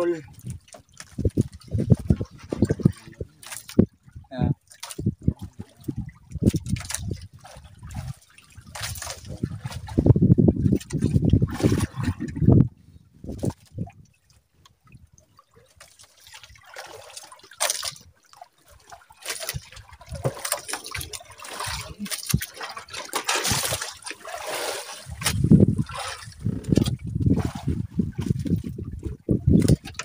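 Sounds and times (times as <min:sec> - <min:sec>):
water trickling and splashing: 0:00.0 - 0:30.0.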